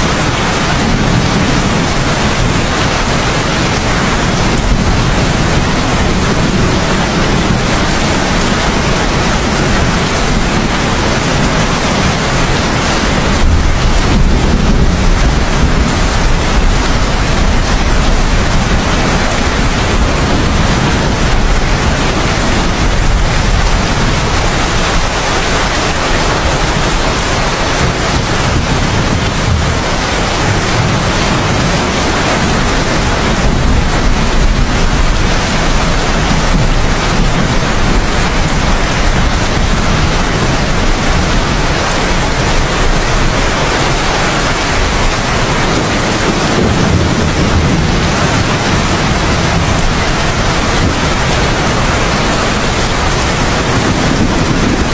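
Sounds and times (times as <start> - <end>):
distant thunder rumble: 0.0 - 54.9
heavy rain: 0.0 - 54.9.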